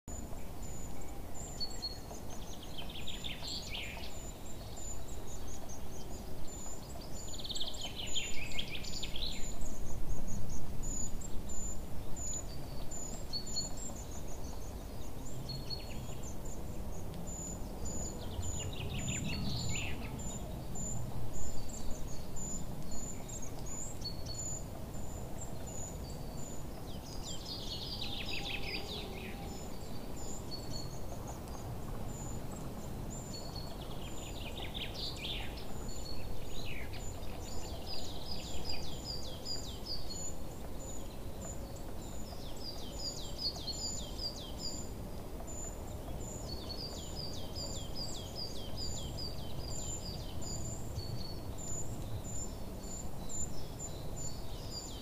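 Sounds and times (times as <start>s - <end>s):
twittering bird song: 0.1s - 55.0s.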